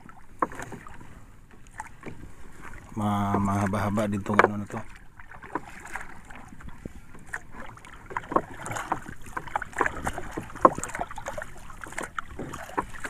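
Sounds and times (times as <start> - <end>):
light knocks on boat: 0.0 - 13.0
water splashing: 0.0 - 13.0.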